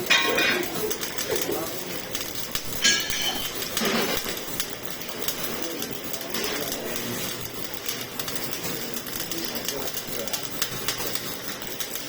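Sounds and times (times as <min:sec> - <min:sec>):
welding arc crackling and sizzling: 0:00.0 - 0:12.0.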